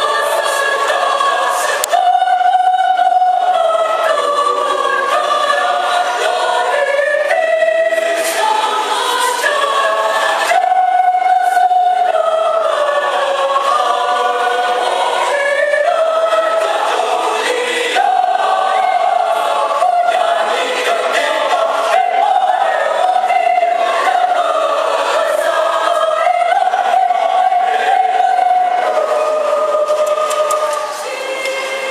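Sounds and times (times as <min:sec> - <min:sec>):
mixed choir singing in harmony: 0:00.0 - 0:31.9.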